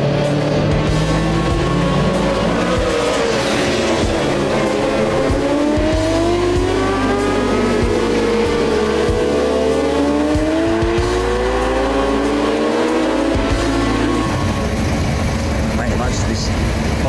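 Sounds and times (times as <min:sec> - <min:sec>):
background music: 0:00.0 - 0:17.0
racing motorcycle engines revving: 0:00.0 - 0:17.0.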